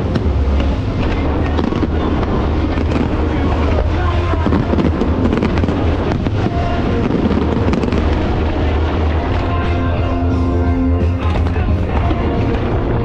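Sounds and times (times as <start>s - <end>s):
fireworks crackling and popping: 0.0s - 13.0s
steady low rumble: 0.0s - 13.0s.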